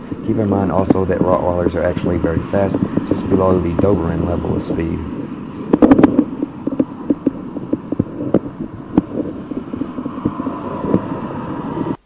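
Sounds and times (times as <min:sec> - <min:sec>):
steady road rumble: 0:00.0 - 0:12.0.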